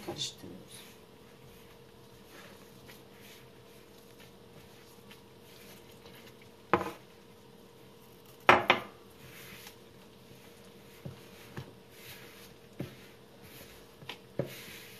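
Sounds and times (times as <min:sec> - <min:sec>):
hand mixing batter in bowl: 0:00.0 - 0:14.9.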